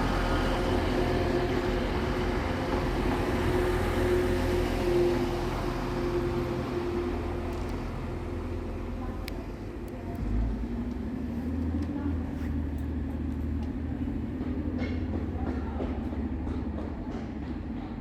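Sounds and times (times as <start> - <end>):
train engine rumbling: 0.0 - 18.0.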